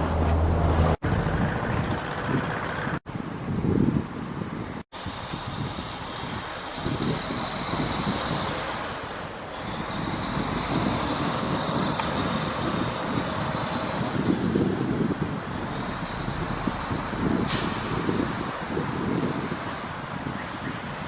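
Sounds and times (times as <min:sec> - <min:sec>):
city traffic: 0:00.0 - 0:21.0.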